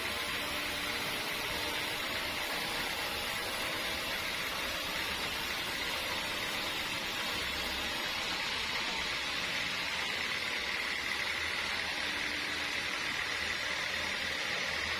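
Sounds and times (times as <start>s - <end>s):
sawmill machinery hissing: 0.0s - 14.9s.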